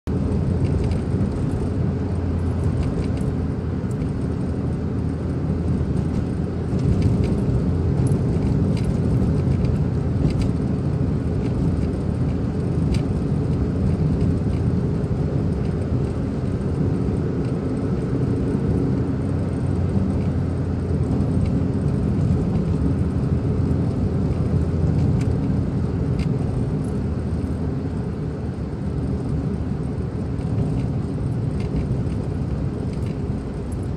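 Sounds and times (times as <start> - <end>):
car interior road rumble: 0.1 - 33.9.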